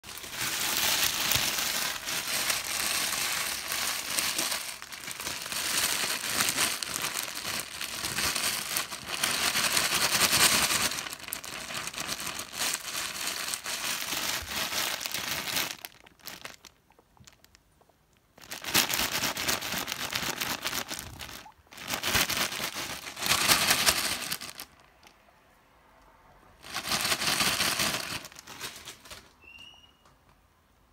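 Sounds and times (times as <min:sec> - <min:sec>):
bag crinkling: 0:00.0 - 0:17.6, 0:18.4 - 0:25.1, 0:26.6 - 0:29.4.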